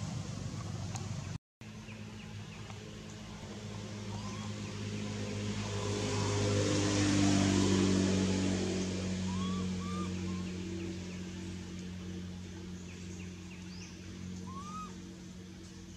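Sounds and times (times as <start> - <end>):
vehicle engine passing by: 0.0 - 15.9.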